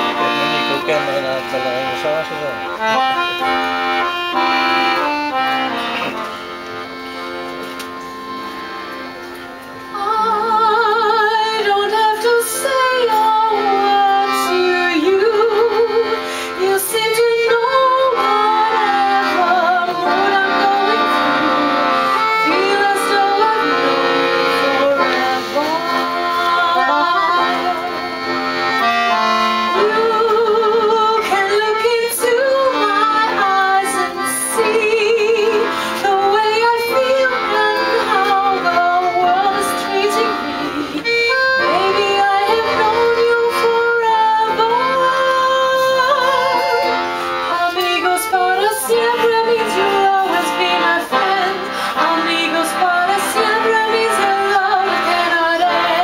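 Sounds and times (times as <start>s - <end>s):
instrumental accompaniment: 0.0s - 56.0s
classical singing with vibrato: 9.9s - 56.0s.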